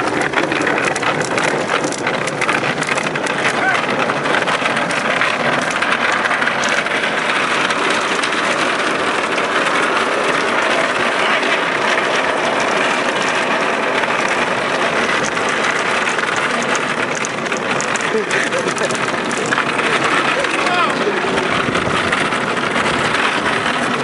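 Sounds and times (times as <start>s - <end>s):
boat towed rushing and rattling: 0.0s - 24.0s.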